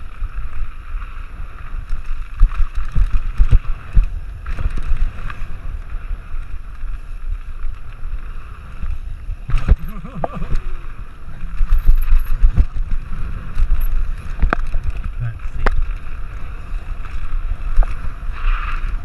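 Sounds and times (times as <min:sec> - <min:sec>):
bike rattling on rough trail: 0:00.0 - 0:19.0
wind buffeting microphone: 0:00.0 - 0:19.0.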